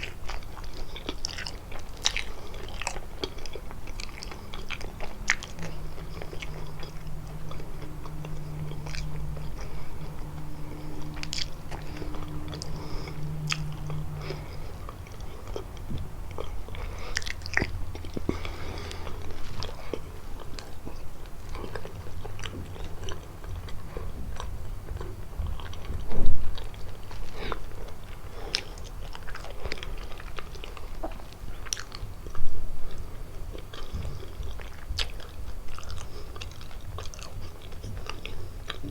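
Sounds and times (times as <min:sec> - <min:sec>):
biting and chewing pastry: 0:00.0 - 0:38.9.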